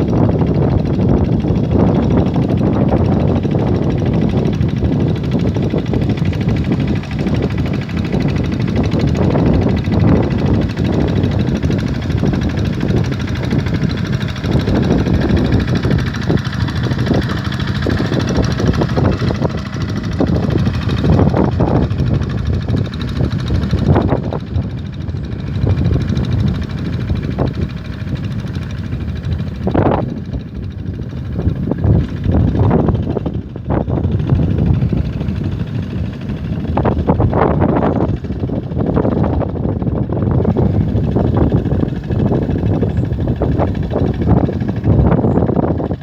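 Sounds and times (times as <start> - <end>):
engine running low-pitched: 0.0 - 46.0.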